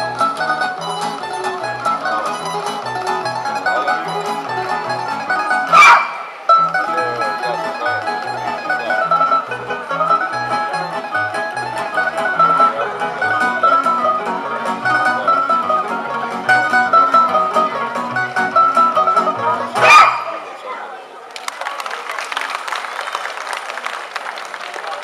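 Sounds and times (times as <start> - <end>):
double bass: 0.0 - 20.0
plucked string melody: 0.0 - 20.4.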